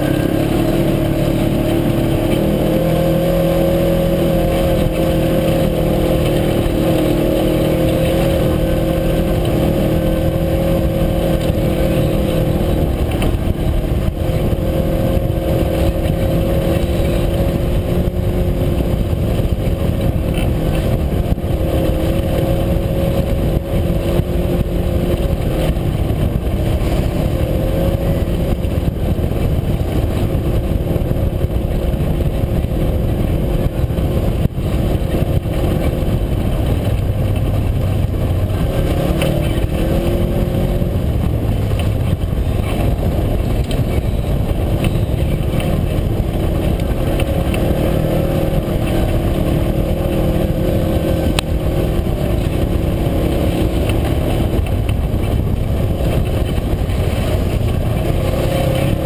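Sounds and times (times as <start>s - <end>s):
utility vehicle engine drone: 0.0s - 59.0s
low rumble from the ride: 4.3s - 59.0s.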